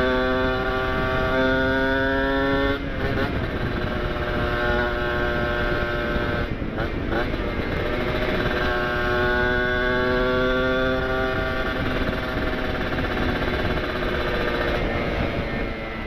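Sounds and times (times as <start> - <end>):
two-stroke motorcycle engine cruising: 0.0 - 16.0
wind rush: 0.3 - 16.0.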